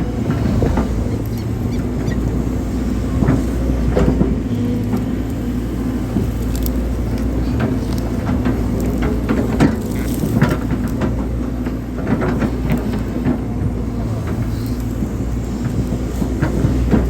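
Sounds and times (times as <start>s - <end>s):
excavator diesel engine running: 0.0s - 17.0s
machine knocks and clanks: 0.1s - 5.2s, 6.1s - 17.0s.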